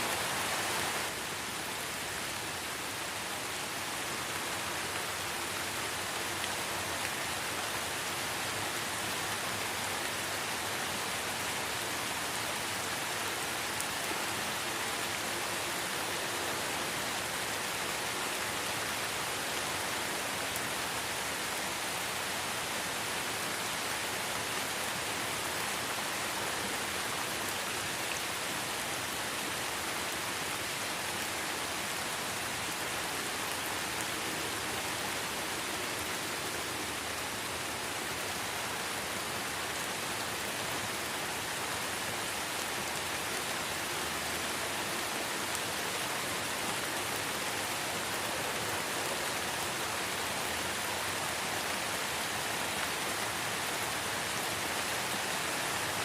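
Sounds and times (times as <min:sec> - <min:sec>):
light rain pattering on leaves: 0:00.0 - 0:56.0.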